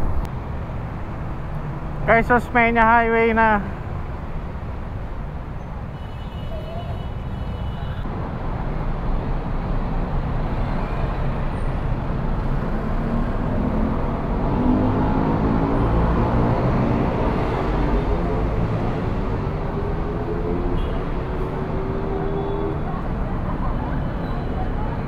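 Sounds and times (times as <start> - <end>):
city traffic engines: 0.0 - 25.0.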